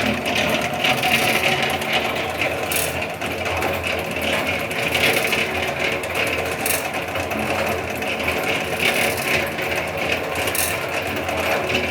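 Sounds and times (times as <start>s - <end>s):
concrete mixer whirring: 0.0s - 11.9s.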